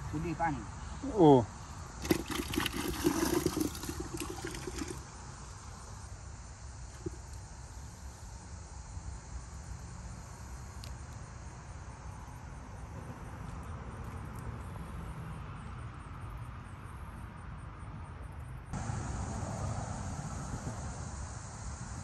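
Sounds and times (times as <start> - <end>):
faint insect chirring: 0.0 - 17.5, 18.3 - 22.0
road traffic rumble: 0.0 - 22.0.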